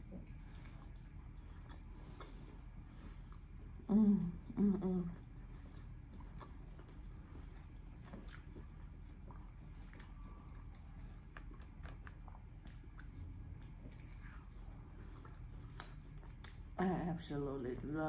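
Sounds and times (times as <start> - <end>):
person chewing ribs: 0.0 - 16.8
faint low hum: 0.0 - 18.0.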